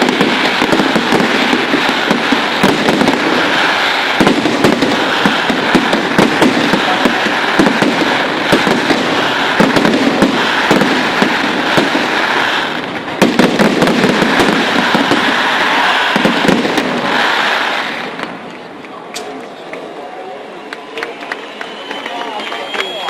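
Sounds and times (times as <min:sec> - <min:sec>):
fireworks banging and crackling: 0:00.0 - 0:20.1.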